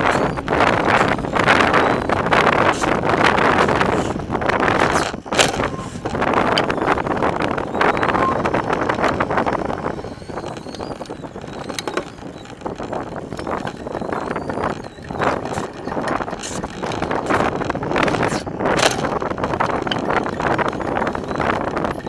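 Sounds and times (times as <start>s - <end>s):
bike clicks and rattles: 0.0s - 22.0s
bike tyre road noise: 0.0s - 22.0s
wind buffeting microphone: 0.0s - 22.0s.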